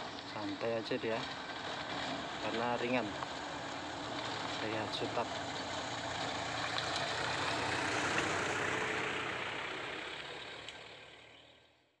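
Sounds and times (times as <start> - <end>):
vehicle driving past on dirt road: 0.0 - 11.9.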